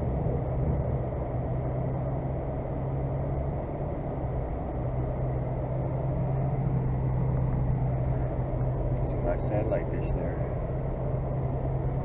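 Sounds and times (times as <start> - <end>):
road and tyre noise: 0.0 - 12.0
vehicle engine drone: 0.0 - 12.0.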